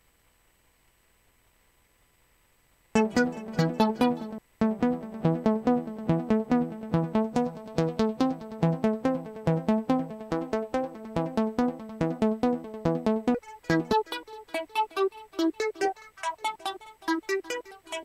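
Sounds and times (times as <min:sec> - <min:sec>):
trance synthesizer riff: 0:03.0 - 0:18.0.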